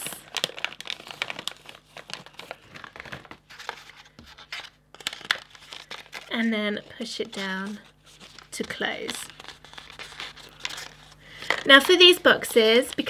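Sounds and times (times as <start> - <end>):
plastic pouch crinkling: 0.0 - 13.0.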